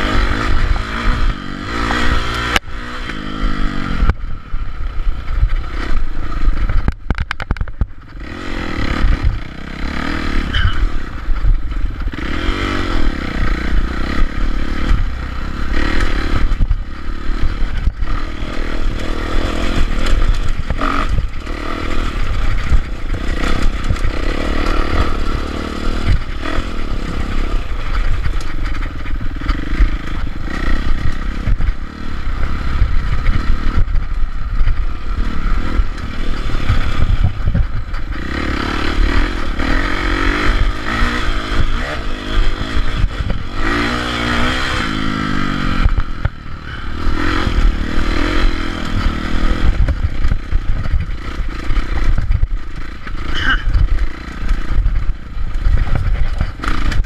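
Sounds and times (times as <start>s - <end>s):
bike rattling over bumps: 0.0s - 57.0s
dirt bike engine revving: 0.0s - 57.0s.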